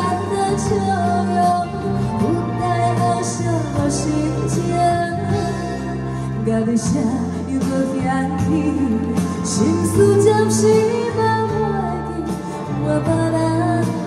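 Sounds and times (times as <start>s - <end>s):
pop song: 0.0s - 14.0s.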